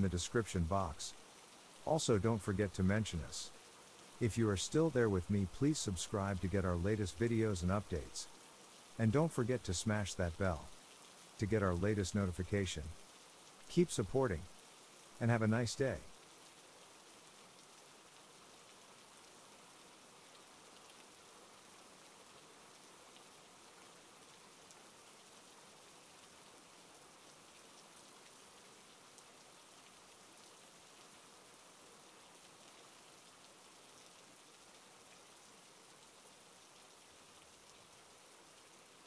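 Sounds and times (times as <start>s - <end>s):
faint steady rain: 0.0s - 39.0s.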